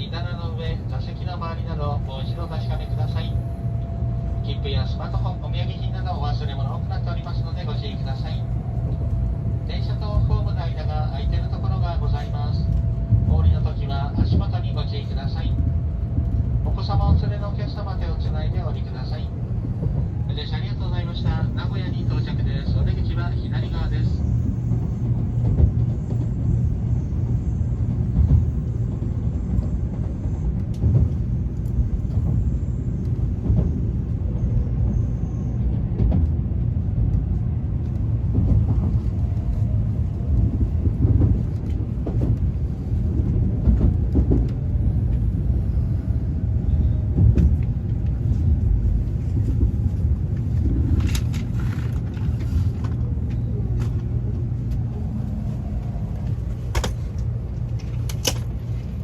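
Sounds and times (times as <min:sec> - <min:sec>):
train cabin low rumble: 0:00.0 - 0:59.0.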